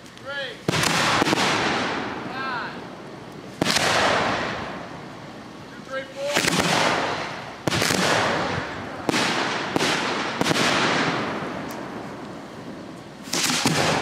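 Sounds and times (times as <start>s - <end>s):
firework shells bursting: 0.0s - 14.0s.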